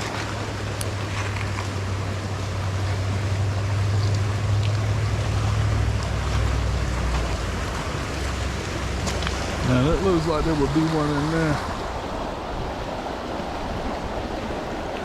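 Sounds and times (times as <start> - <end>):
creek water rushing: 0.0 - 15.0
low steady rumble: 0.0 - 15.0.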